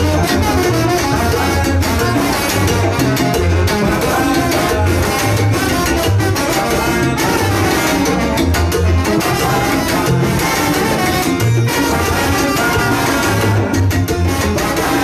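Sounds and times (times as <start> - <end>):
people singing: 0.0 - 8.4, 9.1 - 11.2, 11.8 - 15.0
bass line: 0.0 - 15.0
bongo: 0.0 - 15.0
brass: 0.0 - 15.0
cowbell: 0.0 - 15.0
salsa band playing: 0.0 - 15.0.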